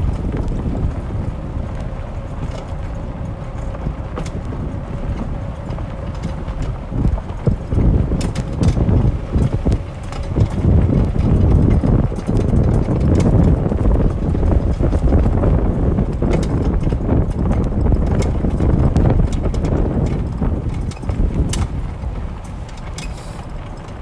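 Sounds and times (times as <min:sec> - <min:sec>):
cart jolting and rattling: 0:00.0 - 0:24.0
cart rumbling: 0:00.0 - 0:24.0
wind buffeting microphone: 0:00.0 - 0:24.0.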